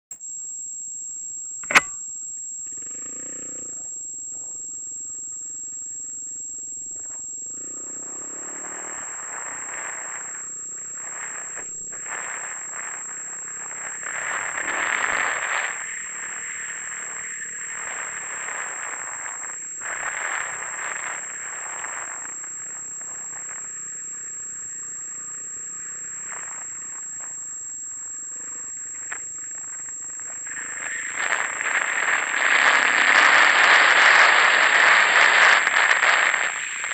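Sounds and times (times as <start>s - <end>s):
steady high whine: 0.0s - 36.9s.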